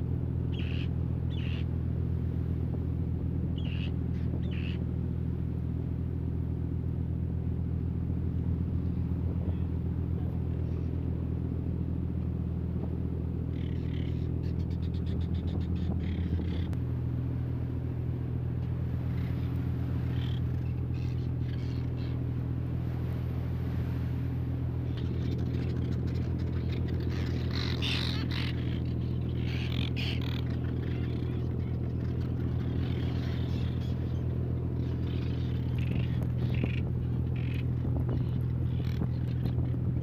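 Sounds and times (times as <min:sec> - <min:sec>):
seabird calls: 0:00.0 - 0:06.5, 0:07.2 - 0:16.8, 0:18.2 - 0:40.0
boat engine humming: 0:00.0 - 0:40.0.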